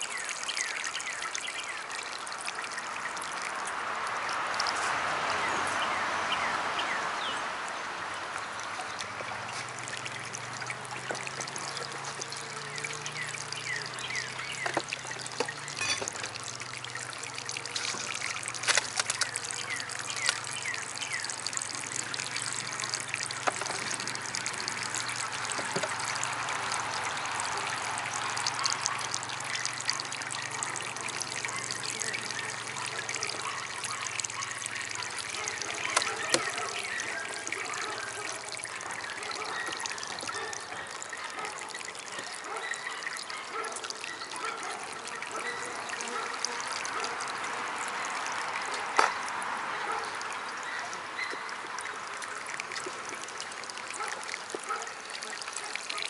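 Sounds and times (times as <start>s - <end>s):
water drips and splashes: 0.0s - 56.0s
water fountain trickling: 0.0s - 56.0s.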